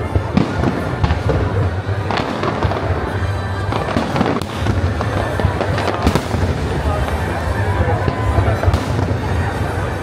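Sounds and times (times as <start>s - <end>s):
continuous rumble: 0.0s - 10.0s
fireworks bursting: 0.0s - 10.0s.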